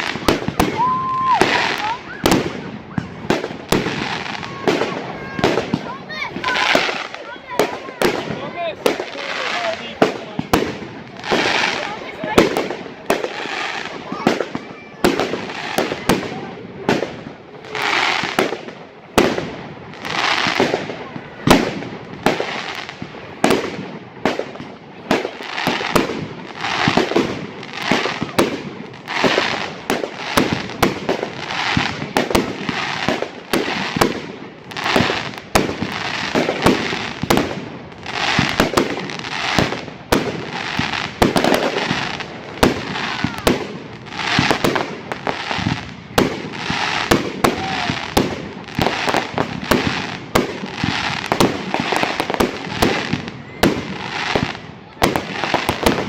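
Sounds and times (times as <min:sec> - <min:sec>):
fireworks banging: 0:00.0 - 0:56.0.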